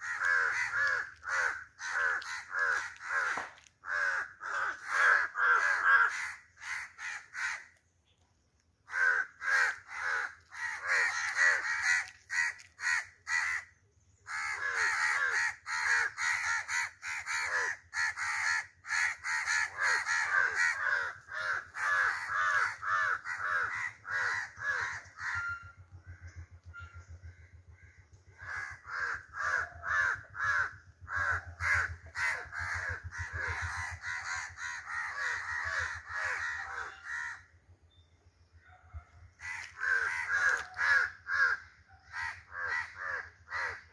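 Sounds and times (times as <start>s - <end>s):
crows cawing: 0.0s - 7.8s, 8.8s - 37.6s, 39.4s - 43.9s.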